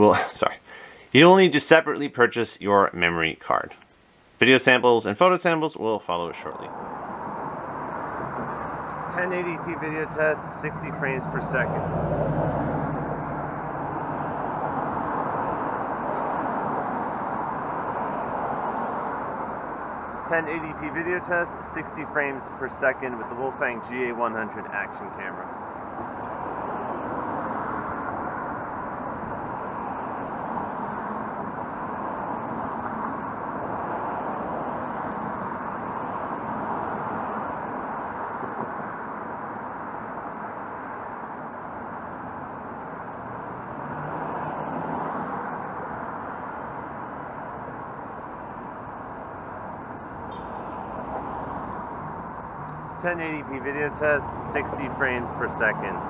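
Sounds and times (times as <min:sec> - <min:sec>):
cars driving past: 0:05.8 - 0:56.0.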